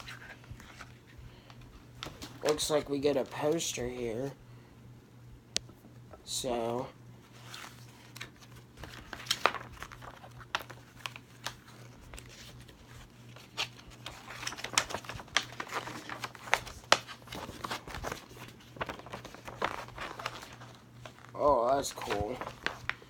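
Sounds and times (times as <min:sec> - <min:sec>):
paper packaging rustling: 0:00.0 - 0:04.3, 0:07.2 - 0:23.0
low electrical hum: 0:00.0 - 0:23.0.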